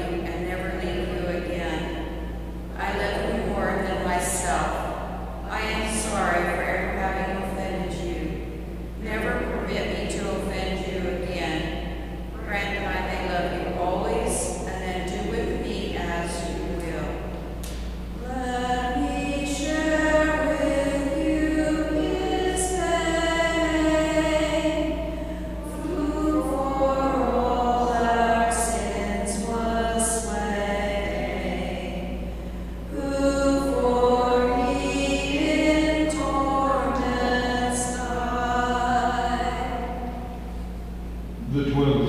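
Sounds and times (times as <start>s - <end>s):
slow hymn singing: 0.0s - 42.0s
steady low hum: 0.0s - 42.0s.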